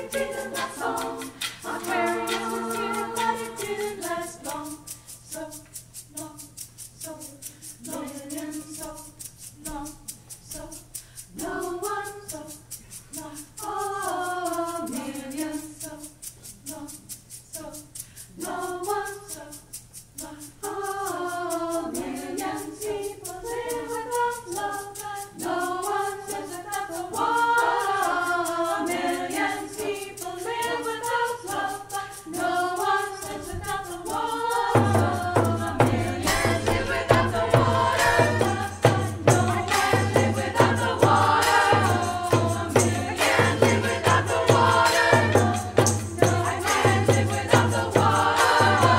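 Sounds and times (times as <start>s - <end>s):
hand drum beat: 0.0s - 12.6s, 20.6s - 48.9s
women's choir singing a cappella: 0.0s - 48.9s.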